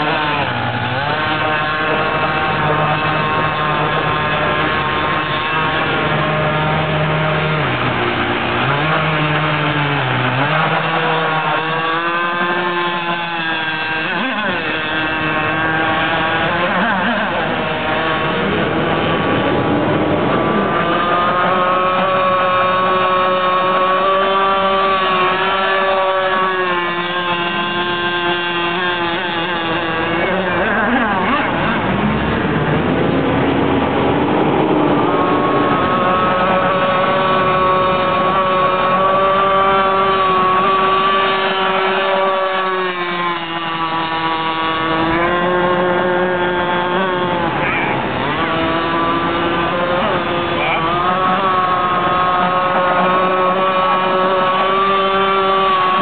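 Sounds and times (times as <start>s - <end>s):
boat engine running hard: 0.0s - 56.0s.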